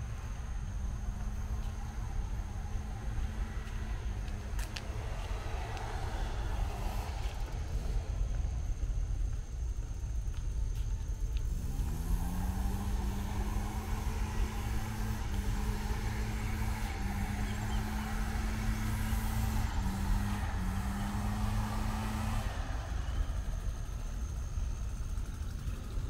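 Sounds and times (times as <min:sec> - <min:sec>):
engine speeding up: 0:00.0 - 0:10.4, 0:11.1 - 0:26.0.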